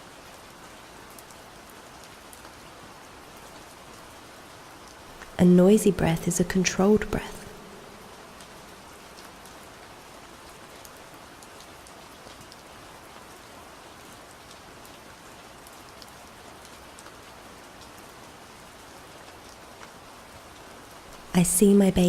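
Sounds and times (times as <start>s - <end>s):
gentle rain falling: 0.0s - 22.0s
raindrops ticking on surfaces: 0.0s - 22.0s.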